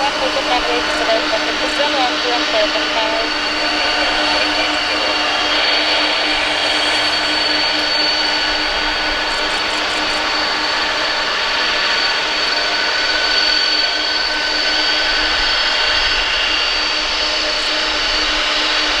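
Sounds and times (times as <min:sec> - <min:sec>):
jet engines rushing: 0:00.0 - 0:19.0
whining tones: 0:00.0 - 0:19.0.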